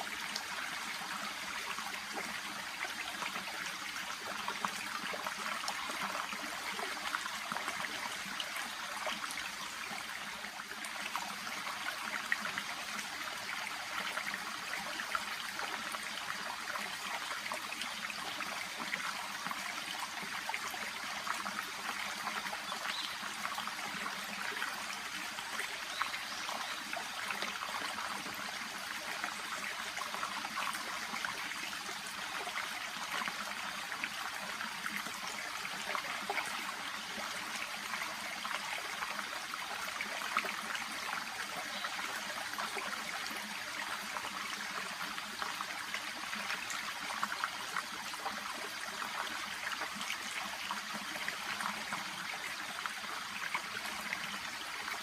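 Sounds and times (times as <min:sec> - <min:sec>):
brook trickling: 0:00.0 - 0:55.0.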